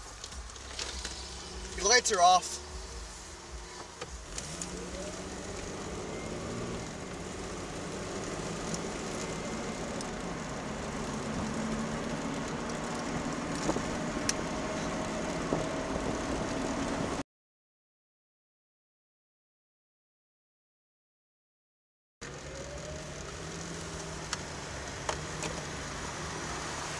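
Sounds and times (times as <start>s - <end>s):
car engine and tyre noise: 0.0s - 17.2s, 22.2s - 26.9s.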